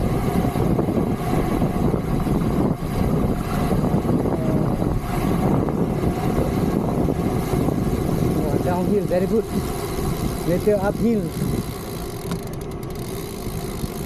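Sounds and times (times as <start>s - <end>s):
wind rushing over microphone: 0.0s - 12.3s.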